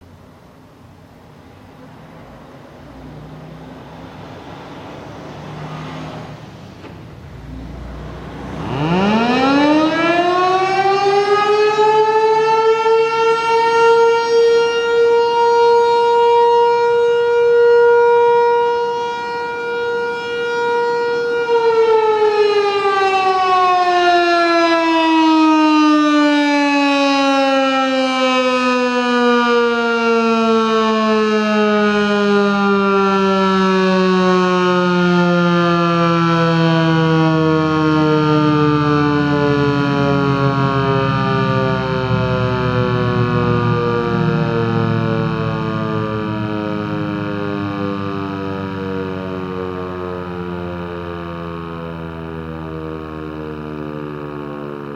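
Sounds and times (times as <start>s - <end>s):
outdoor warning siren: 0.0s - 54.9s.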